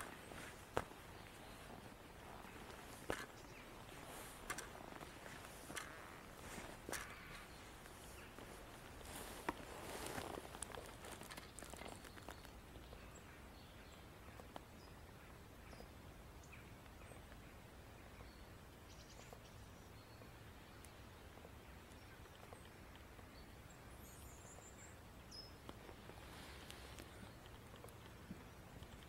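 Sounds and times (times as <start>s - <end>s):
faint woodland ambience: 0.0s - 29.0s.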